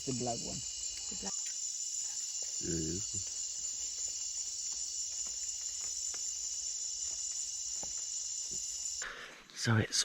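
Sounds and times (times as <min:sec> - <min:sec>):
insects shrill drone: 0:00.0 - 0:09.2
faint ticks: 0:00.8 - 0:09.1.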